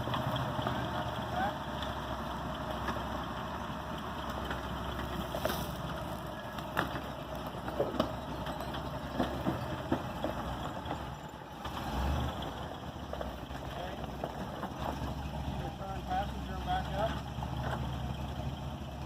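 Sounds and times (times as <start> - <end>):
vehicle engine low rumble: 0.0 - 19.0.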